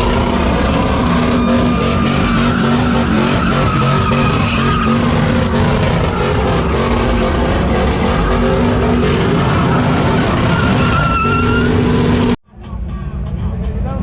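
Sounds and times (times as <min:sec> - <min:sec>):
truck engine at high revs: 0:00.0 - 0:12.4
tyres squealing: 0:00.0 - 0:12.4.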